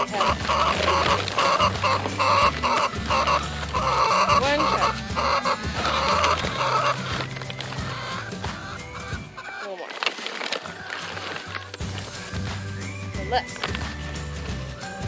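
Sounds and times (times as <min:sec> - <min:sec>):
chickens clucking: 0:00.0 - 0:14.9
rhythmic background music: 0:00.0 - 0:15.0.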